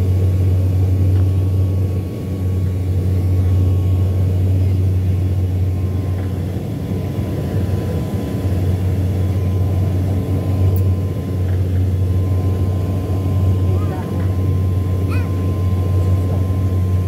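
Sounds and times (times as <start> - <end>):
engine hum: 0.0 - 17.0
propeller drone: 0.0 - 17.0.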